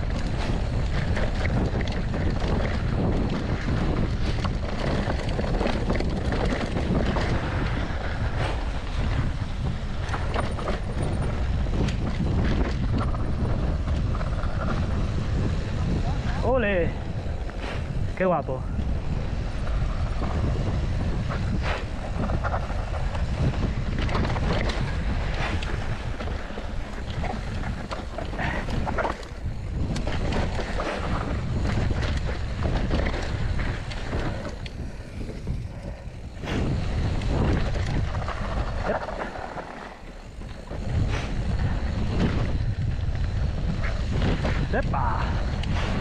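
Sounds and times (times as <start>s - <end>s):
bike knocks and rattles: 0.0s - 18.1s, 18.8s - 46.0s
wind buffeting microphone: 0.0s - 46.0s.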